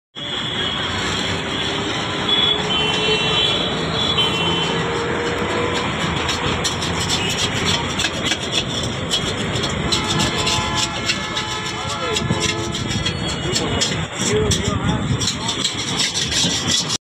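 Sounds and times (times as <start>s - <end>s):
street traffic: 0.1s - 17.0s.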